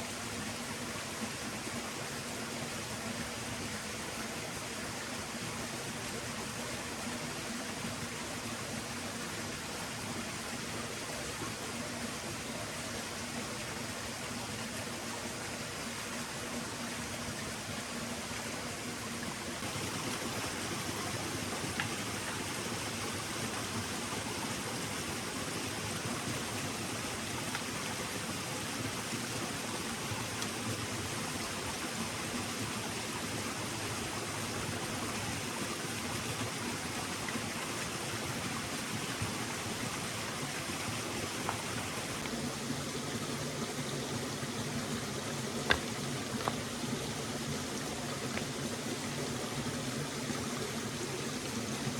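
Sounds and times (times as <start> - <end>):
stream flowing: 0.0 - 51.9.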